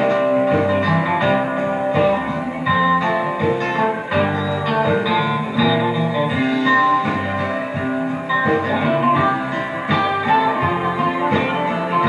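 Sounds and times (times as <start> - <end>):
live band playing folk ballad: 0.0 - 12.0.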